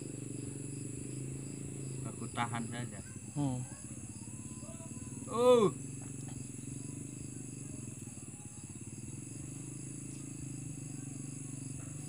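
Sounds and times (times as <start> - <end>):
high insect-like drone: 0.0 - 12.0
low pulsing buzzing hum: 0.0 - 12.0.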